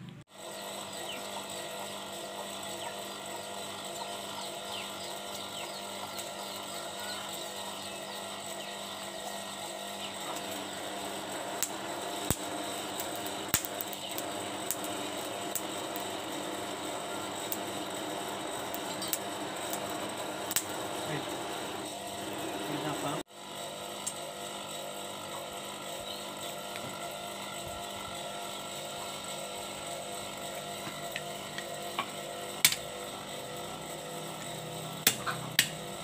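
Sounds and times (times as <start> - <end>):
electric blower humming: 0.0 - 36.0.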